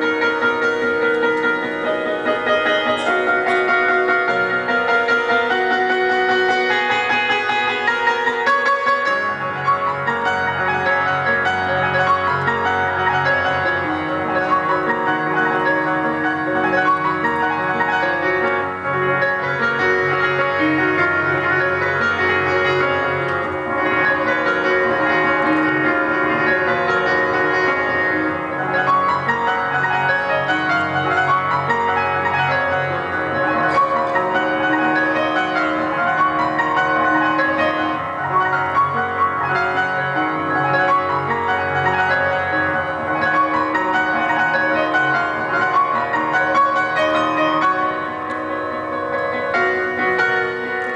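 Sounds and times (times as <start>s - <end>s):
grand piano chords: 0.0s - 50.9s.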